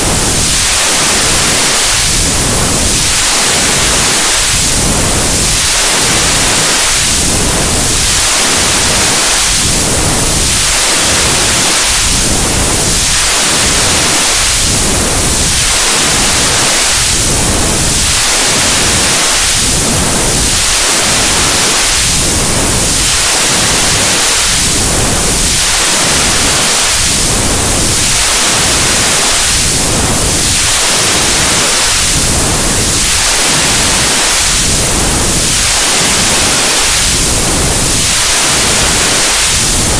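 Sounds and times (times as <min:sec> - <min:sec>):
flanged white noise: 0:00.0 - 0:39.9.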